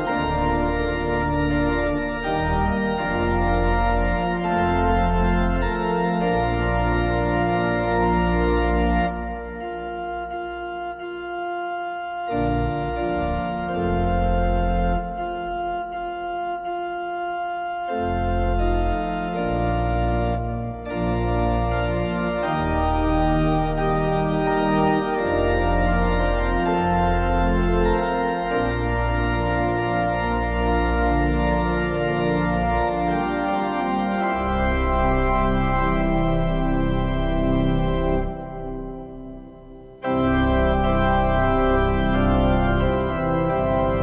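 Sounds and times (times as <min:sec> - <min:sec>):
organ bass notes: 0:00.0 - 0:44.0
organ chords: 0:00.0 - 0:44.0.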